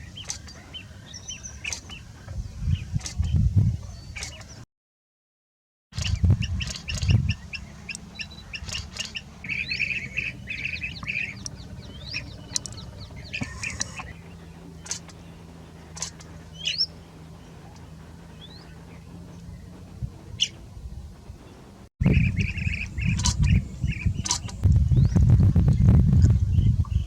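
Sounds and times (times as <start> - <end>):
steady low rumble: 0.0 - 4.2, 6.0 - 27.0
birds chirping and trilling: 0.0 - 4.6, 6.0 - 27.0.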